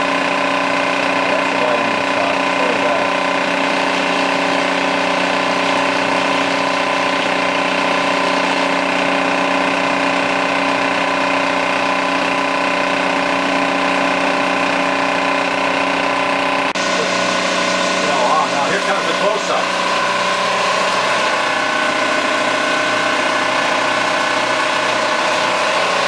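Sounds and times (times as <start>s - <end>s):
film projector running: 0.0s - 26.0s.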